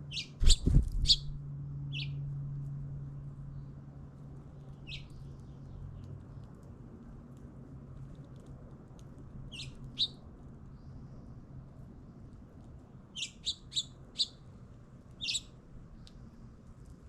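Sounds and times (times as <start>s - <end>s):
small birds chirping: 0.0s - 2.3s, 3.4s - 6.8s, 7.9s - 16.3s
faint steady low hum: 0.0s - 17.0s.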